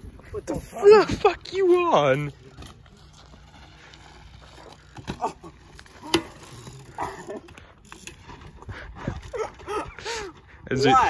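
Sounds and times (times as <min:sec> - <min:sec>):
bike rolling on dirt: 0:00.0 - 0:11.0.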